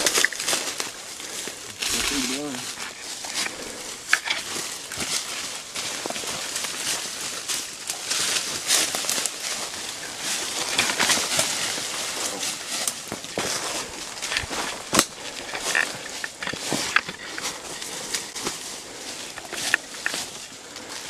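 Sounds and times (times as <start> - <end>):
brush rustling: 0.0 - 21.0
dry leaves crunching underfoot: 0.0 - 21.0
twigs snapping: 0.0 - 21.0.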